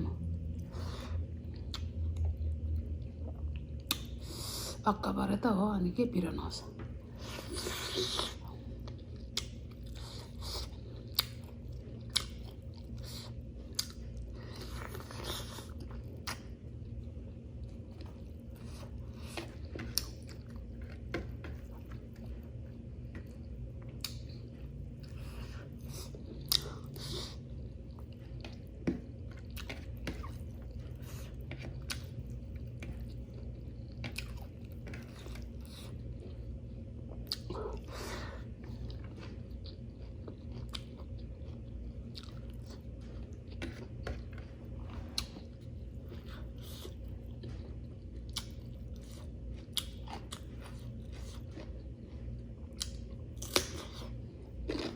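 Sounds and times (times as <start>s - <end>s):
chewing and mouth sounds: 0.0s - 4.8s, 7.1s - 54.9s
low hum: 0.0s - 53.4s.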